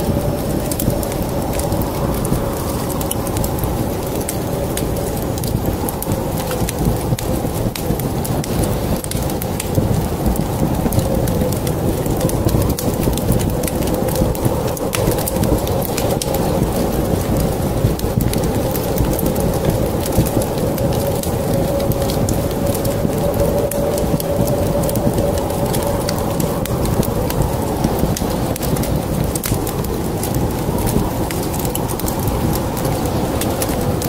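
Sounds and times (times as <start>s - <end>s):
log fire crackling: 0.0s - 34.0s
steady low rumble: 0.0s - 34.0s.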